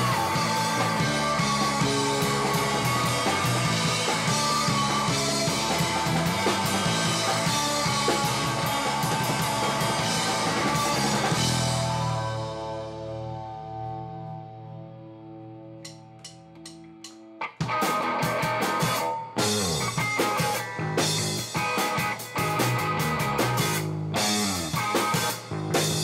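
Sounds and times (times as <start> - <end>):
drum kit and cymbals: 0.0 - 13.4, 15.8 - 26.0
held guitar and bass notes: 0.0 - 26.0
live rock band playing: 0.0 - 26.0.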